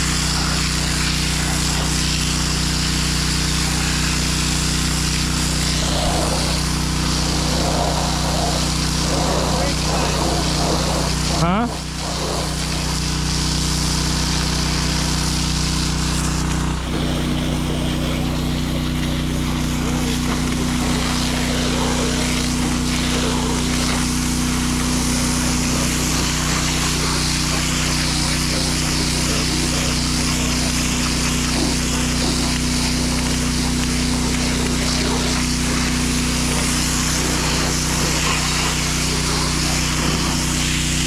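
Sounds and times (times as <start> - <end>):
pressure washer engine: 0.0 - 41.0
water spray hissing: 0.0 - 41.0.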